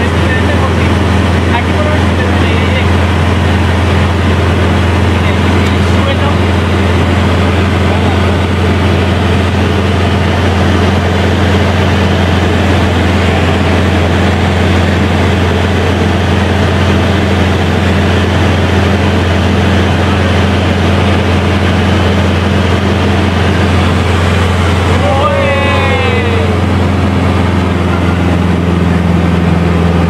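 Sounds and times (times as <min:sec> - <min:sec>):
airplane engine and propeller droning: 0:00.0 - 0:30.0.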